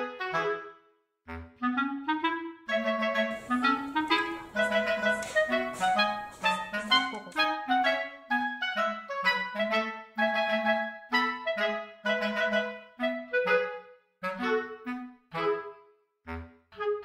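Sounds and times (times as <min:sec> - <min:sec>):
woodwind melody in short notes: 0:00.0 - 0:17.0.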